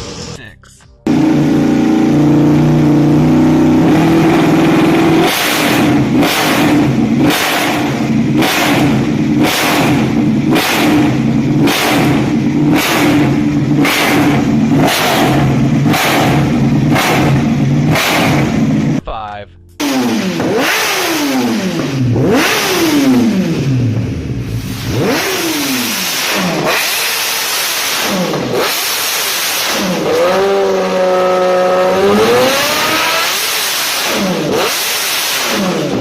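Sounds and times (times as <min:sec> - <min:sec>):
motorcycle engine revving: 0:01.1 - 0:19.1, 0:19.7 - 0:36.0.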